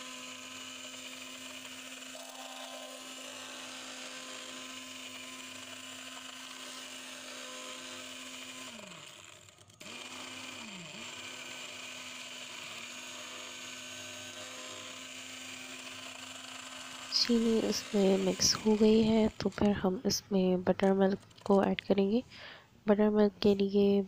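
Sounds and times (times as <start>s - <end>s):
hand blender motor whine: 0.0s - 21.8s.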